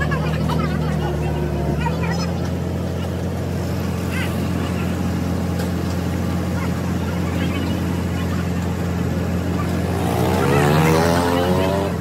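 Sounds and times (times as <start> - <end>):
engine idling: 0.0 - 10.9.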